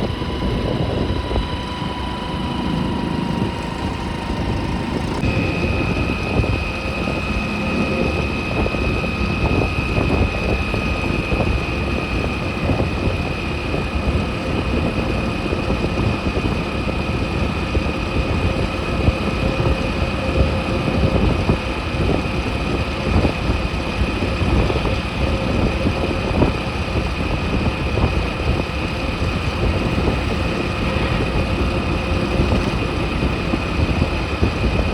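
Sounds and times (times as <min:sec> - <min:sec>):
motorcycle running: 0:00.0 - 0:34.9
thin high whine: 0:00.0 - 0:34.9
wind and road noise: 0:00.0 - 0:34.9.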